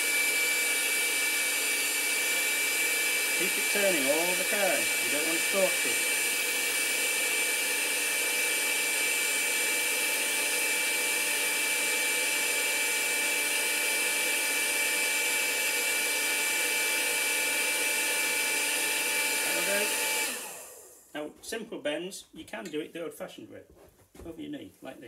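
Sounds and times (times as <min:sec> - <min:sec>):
heat gun fan blowing: 0:00.0 - 0:21.1.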